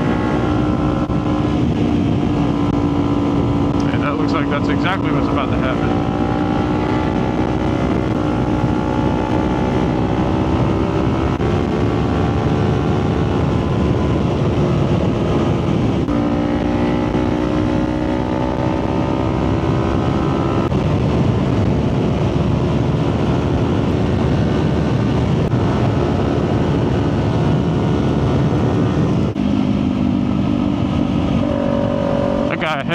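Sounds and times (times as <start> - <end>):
motorcycle engine accelerating: 0.0 - 32.9
wind rush: 0.0 - 32.9.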